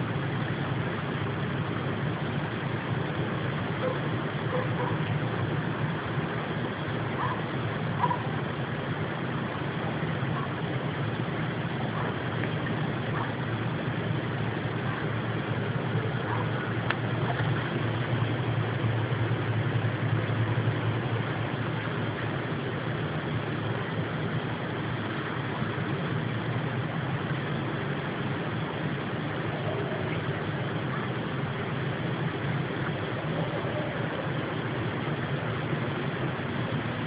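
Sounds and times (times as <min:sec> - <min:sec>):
steady low drone with rushing: 0:00.0 - 0:37.0.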